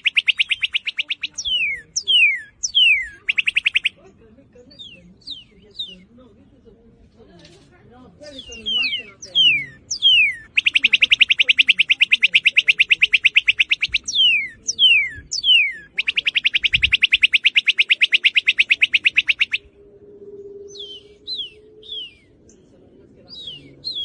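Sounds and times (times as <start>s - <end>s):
bird singing whistles and trills: 0.0s - 4.0s, 4.7s - 6.2s, 8.2s - 24.0s.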